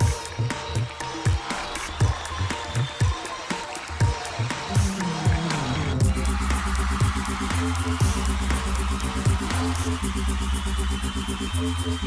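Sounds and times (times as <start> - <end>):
background music with deep bass: 0.0 - 12.0.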